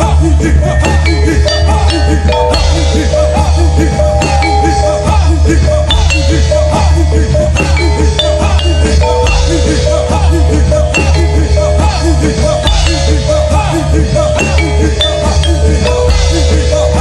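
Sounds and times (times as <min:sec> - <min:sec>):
deep bass: 0:00.0 - 0:17.0
driving drum rhythm: 0:00.0 - 0:17.0
struck metallophone notes: 0:00.0 - 0:17.0.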